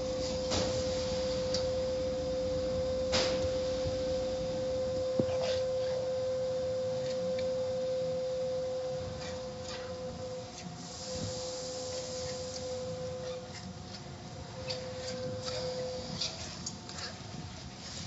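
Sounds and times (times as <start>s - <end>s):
steady high-pitched tone: 0.0s - 17.5s.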